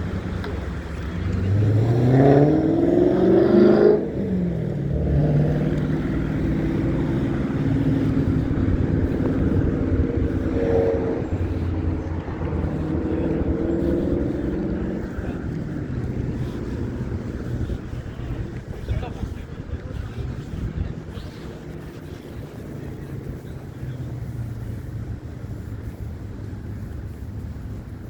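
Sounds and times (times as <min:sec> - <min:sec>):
street traffic rumble: 0:00.0 - 0:28.0
vehicle engine accelerating: 0:00.0 - 0:28.0.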